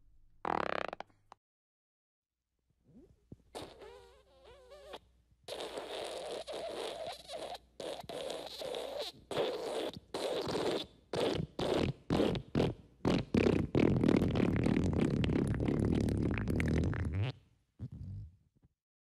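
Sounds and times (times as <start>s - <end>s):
fart sounds: 0.4s - 1.2s, 2.9s - 18.4s.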